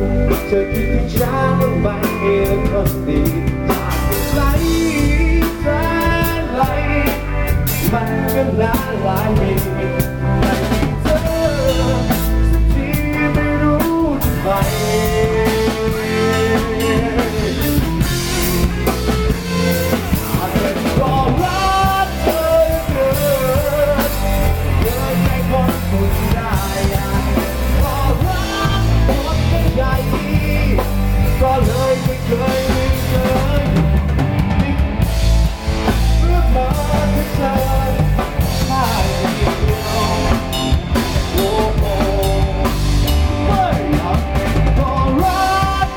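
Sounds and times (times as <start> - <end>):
drum kit beat: 0.0 - 45.9
guitar: 0.0 - 45.9
instrumental rock pop song: 0.0 - 45.9.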